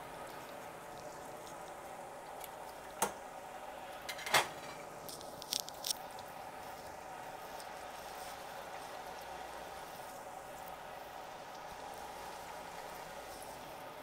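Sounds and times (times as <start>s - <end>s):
food sizzling in deep fryer: 0.0s - 14.0s.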